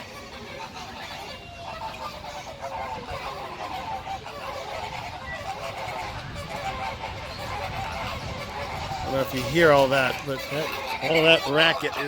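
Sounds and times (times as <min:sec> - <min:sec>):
flamingos honking: 0:00.0 - 0:12.0.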